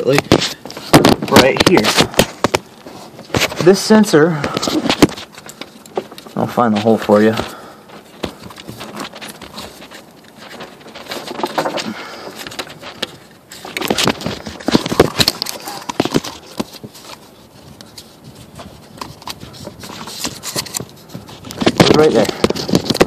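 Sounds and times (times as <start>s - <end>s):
hand rustling and scraping: 0.0s - 23.0s.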